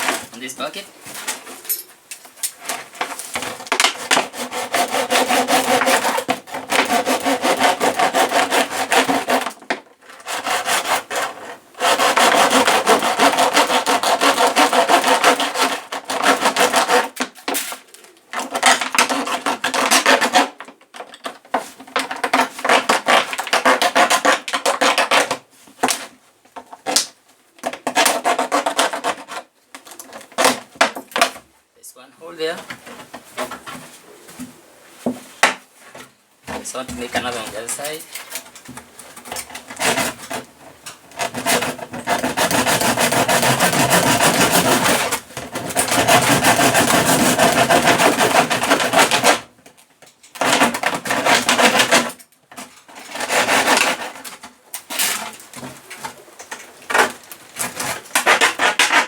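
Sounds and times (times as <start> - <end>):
blade sawing through plastic: 0.0 - 0.8, 2.6 - 26.1, 26.8 - 31.4, 36.5 - 49.5, 50.3 - 56.2, 56.9 - 59.0.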